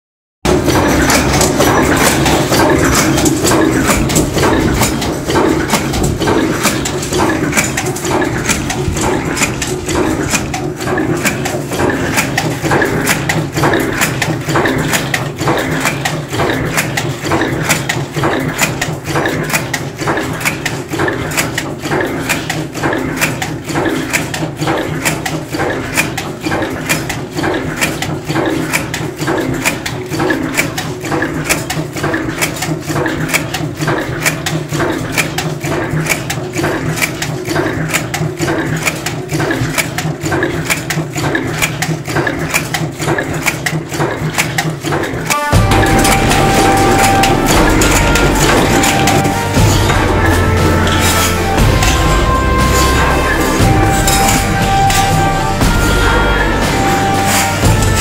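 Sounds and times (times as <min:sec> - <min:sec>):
steady machine hum: 0:00.4 - 0:58.0
punches clattering on dies: 0:00.5 - 0:58.0.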